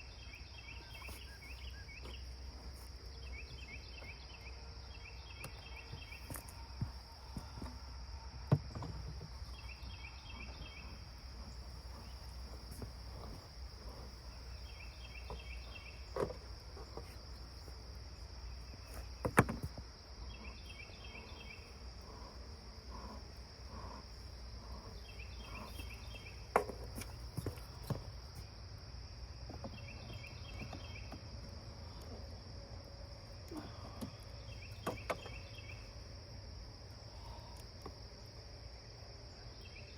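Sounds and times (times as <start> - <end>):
cricket-like chirps: 0.0 - 39.9.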